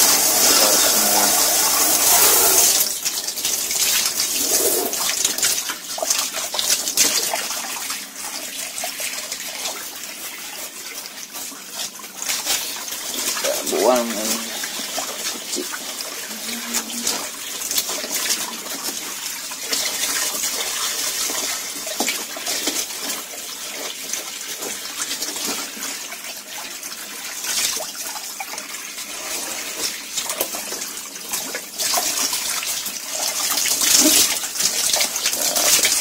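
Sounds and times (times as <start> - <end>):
hose water spraying and splashing: 0.0 - 36.0.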